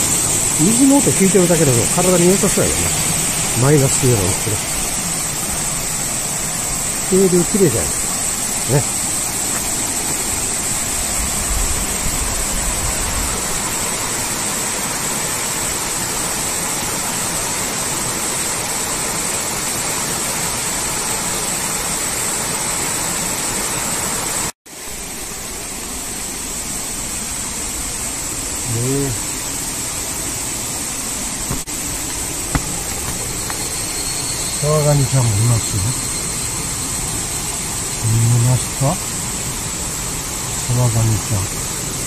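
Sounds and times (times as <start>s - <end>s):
stream rushing over boulders: 0.0s - 42.0s.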